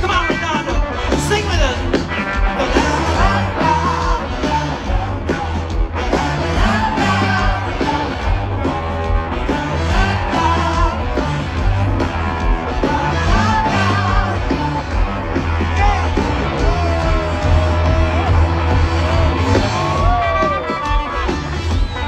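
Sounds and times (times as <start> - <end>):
drums on a steady beat: 0.0 - 22.0
live rock band playing: 0.0 - 22.0.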